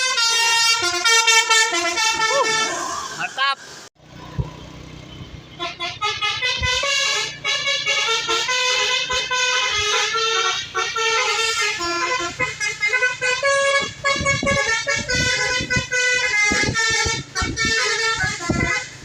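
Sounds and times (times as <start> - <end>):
multi-tone bus horn melody: 0.0 - 3.2, 5.3 - 19.0.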